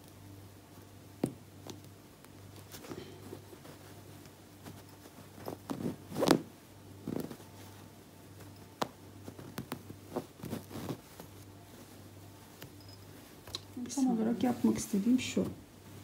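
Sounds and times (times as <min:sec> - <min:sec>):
cloth and yarn rustling: 0:00.0 - 0:16.0.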